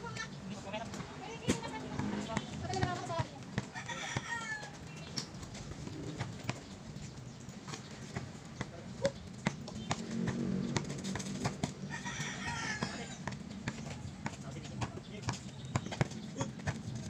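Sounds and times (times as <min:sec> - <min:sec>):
basketball bouncing on concrete: 0:00.1 - 0:06.8, 0:07.6 - 0:17.0.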